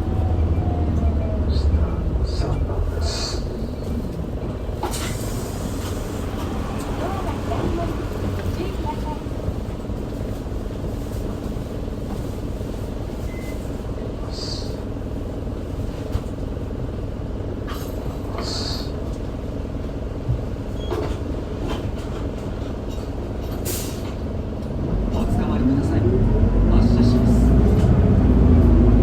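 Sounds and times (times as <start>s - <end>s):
bus diesel engine idling: 0.0s - 29.0s.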